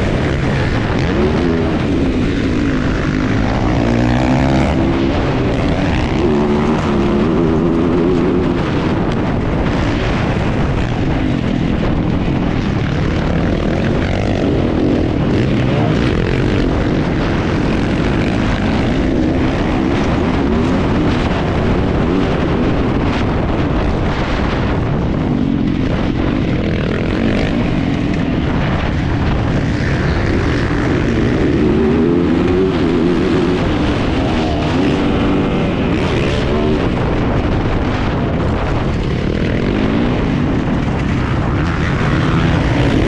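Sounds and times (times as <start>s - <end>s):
motorcycle engine revving: 0.0s - 43.0s
wind noise: 0.0s - 43.0s.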